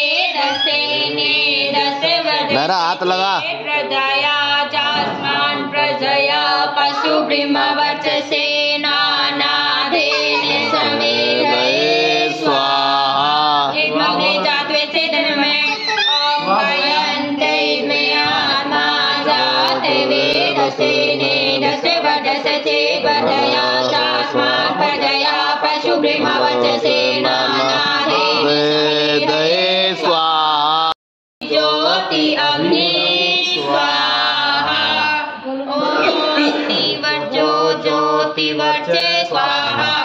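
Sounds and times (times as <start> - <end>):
devotional chanting over music: 0.0 - 40.0.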